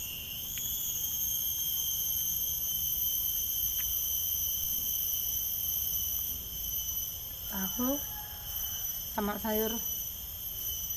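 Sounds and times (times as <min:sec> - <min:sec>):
insects chorus: 0:00.0 - 0:10.9.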